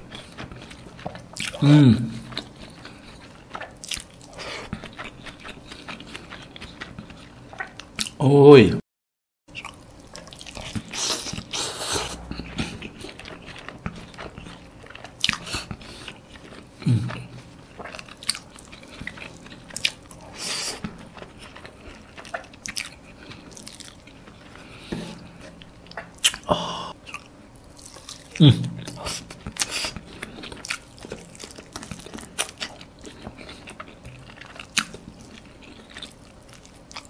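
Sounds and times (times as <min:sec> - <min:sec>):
man chewing wetly: 0:00.0 - 0:08.2, 0:09.5 - 0:37.0.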